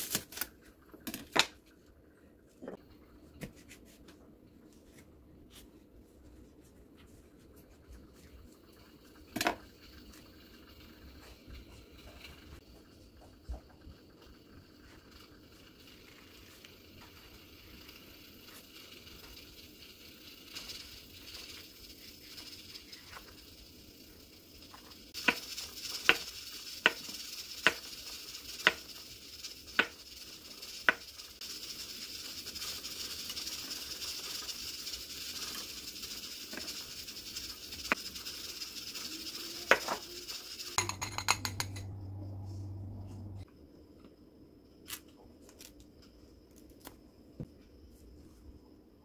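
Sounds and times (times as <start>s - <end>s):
steady hiss: 4.4s - 49.0s.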